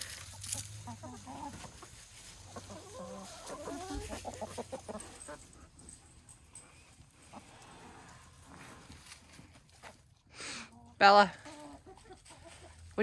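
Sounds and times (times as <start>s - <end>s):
hens clucking: 0.0s - 6.0s, 6.9s - 13.0s.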